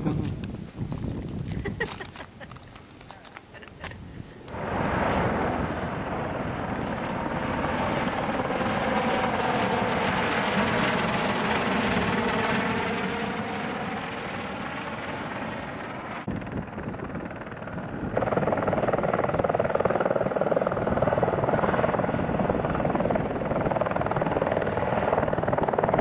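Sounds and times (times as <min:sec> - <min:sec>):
helicopter flying past: 0:00.0 - 0:26.0.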